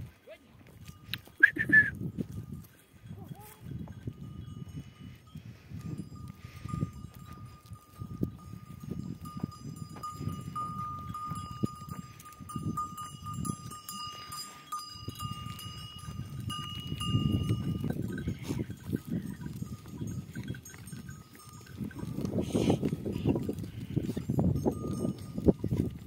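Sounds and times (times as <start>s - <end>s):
goat bells clinking: 0.0s - 26.0s
hooves shuffling on stones: 0.0s - 26.0s.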